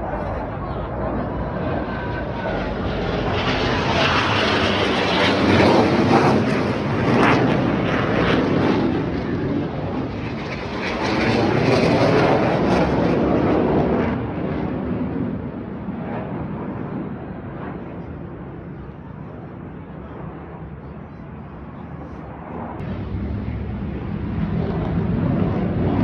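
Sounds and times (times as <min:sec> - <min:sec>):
jet planes flying over: 0:00.0 - 0:26.0.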